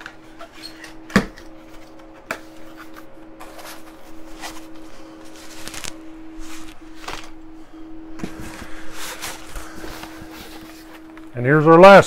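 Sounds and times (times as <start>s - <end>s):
steady low hum: 0.0s - 12.0s
cardboard rustling and scraping: 1.5s - 11.2s.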